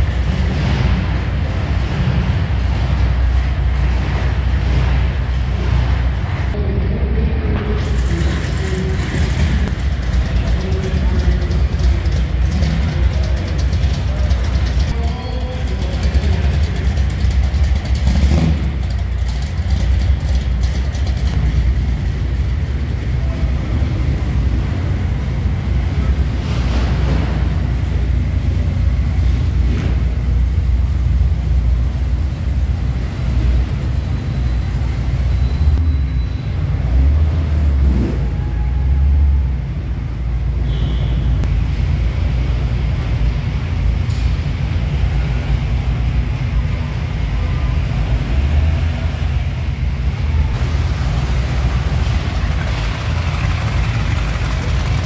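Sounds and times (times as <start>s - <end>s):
car engines rumbling past: 0.0s - 55.0s.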